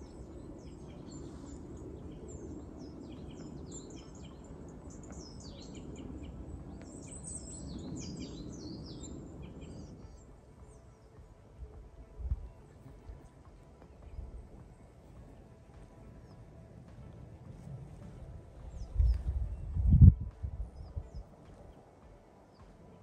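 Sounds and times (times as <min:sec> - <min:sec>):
low background rumble: 0:00.0 - 0:23.0
small songbirds chirping: 0:00.0 - 0:23.0.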